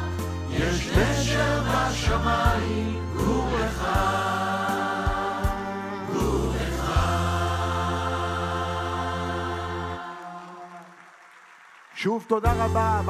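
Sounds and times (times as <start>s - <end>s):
mixed choir singing: 0.0s - 10.8s.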